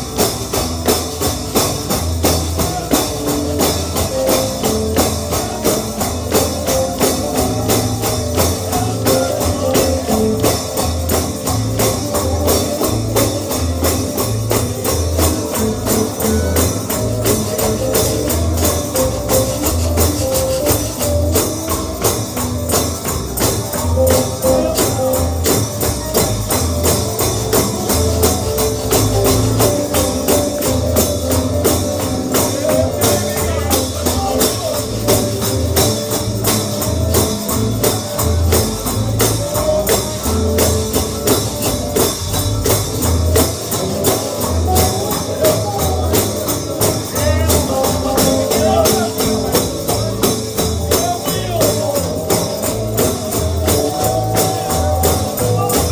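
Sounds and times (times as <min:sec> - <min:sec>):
tambourine jingling: 0:00.0 - 0:55.9
uptempo gospel music: 0:00.0 - 0:55.9
walking bass line: 0:00.0 - 0:55.9.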